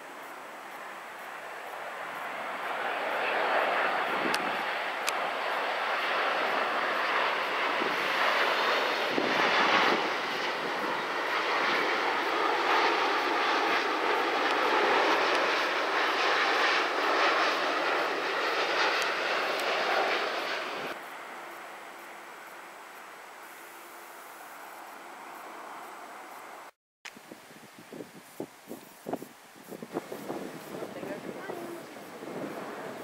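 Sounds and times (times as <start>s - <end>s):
jet airliner engines: 0.0s - 26.8s, 29.2s - 33.0s.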